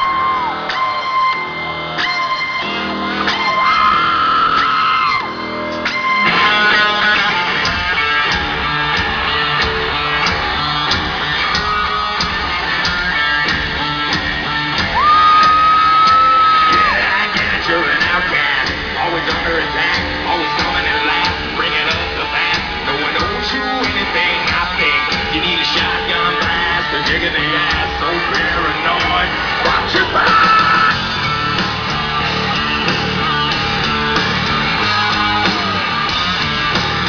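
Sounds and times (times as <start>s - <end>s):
electric guitar: 0.0s - 37.0s
hard rock music: 0.0s - 37.0s.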